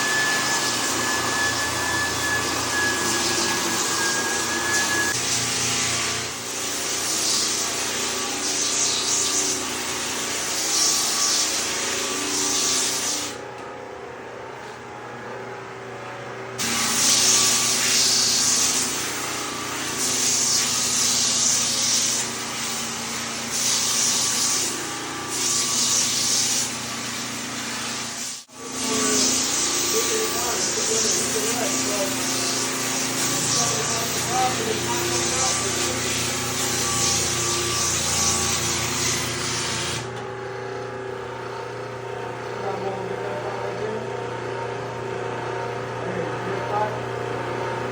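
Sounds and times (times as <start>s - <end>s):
floor sanding machine: 0.0s - 47.9s.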